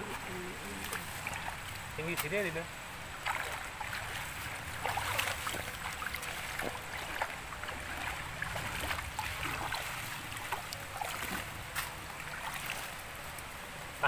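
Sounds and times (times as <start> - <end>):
stream babbling over stones: 0.0 - 14.0
water sloshing and splashing: 0.0 - 14.0.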